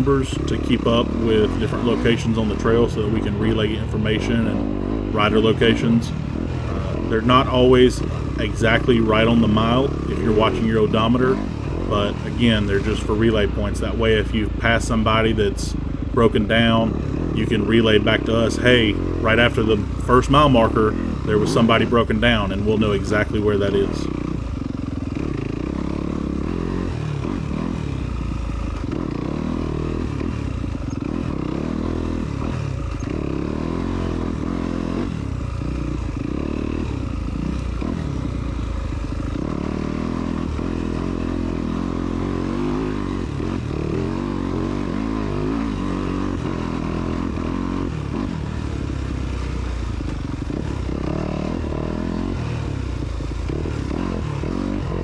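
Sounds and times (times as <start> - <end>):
motorcycle engine revving: 0.0 - 55.0
motorcycle rattling: 0.0 - 55.0.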